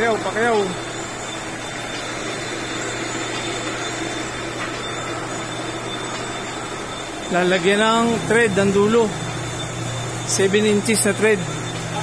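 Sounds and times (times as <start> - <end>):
machinery whirring hum: 0.0 - 12.0.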